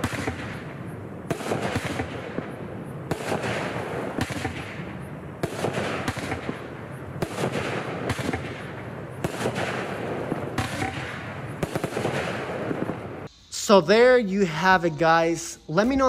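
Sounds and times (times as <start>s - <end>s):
firework shots: 0.0s - 13.3s
firework crackling: 0.0s - 14.1s.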